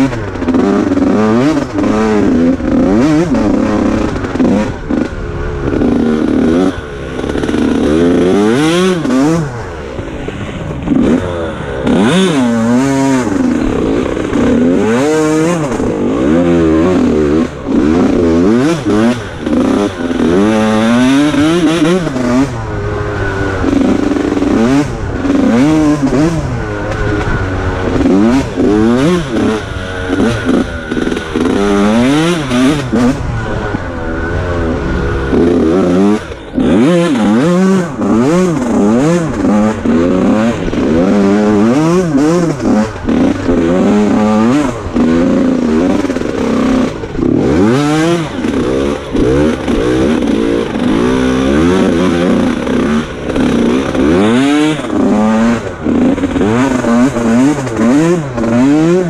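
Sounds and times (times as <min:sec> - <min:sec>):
bike rattling over rough ground: 0:00.0 - 0:59.0
dirt bike engine revving: 0:00.0 - 0:59.0.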